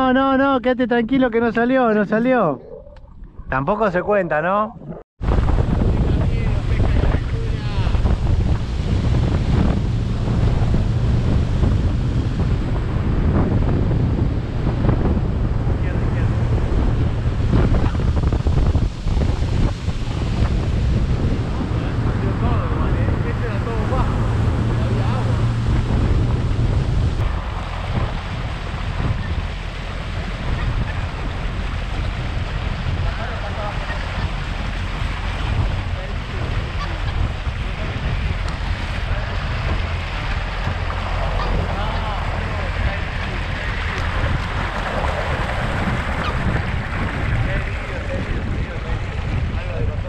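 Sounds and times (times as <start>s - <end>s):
water rushing around boat: 0.0s - 50.0s
wind buffeting microphone: 0.0s - 50.0s.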